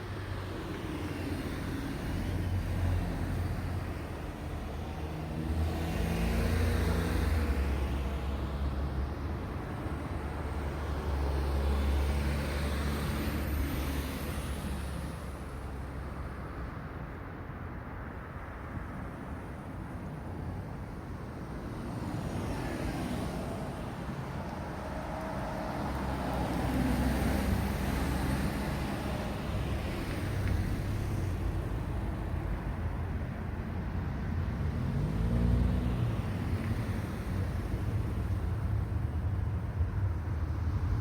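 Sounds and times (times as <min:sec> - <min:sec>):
cars passing by: 0:00.0 - 0:41.0
engine and tyre noise: 0:00.0 - 0:41.0.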